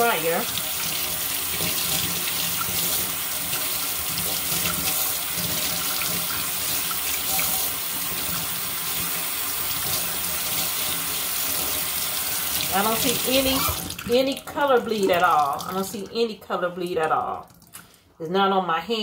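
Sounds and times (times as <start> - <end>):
faucet running into metal sink: 0.0 - 15.9.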